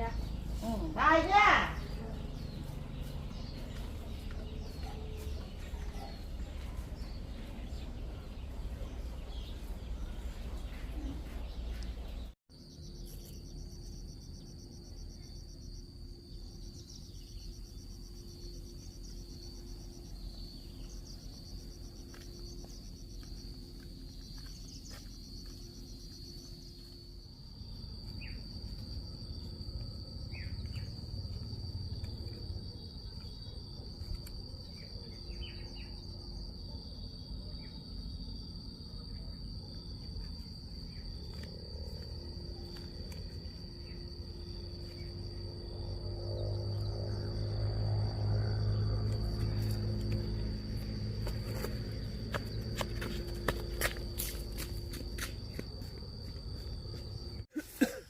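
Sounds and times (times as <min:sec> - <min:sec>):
crickets chirring: 0:00.0 - 0:58.0
fast pulsing insect chirp: 0:00.0 - 0:58.0.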